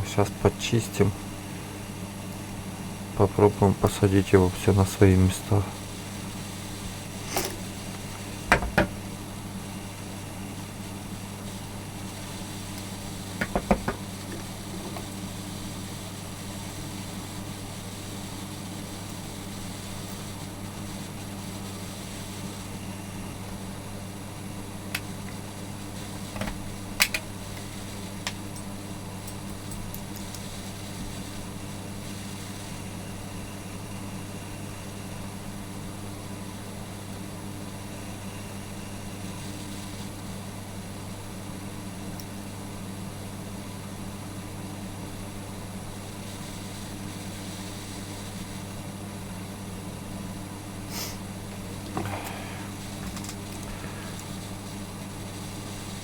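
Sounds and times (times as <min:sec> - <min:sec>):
steady low hum: 0:00.0 - 0:42.8, 0:45.6 - 0:56.0.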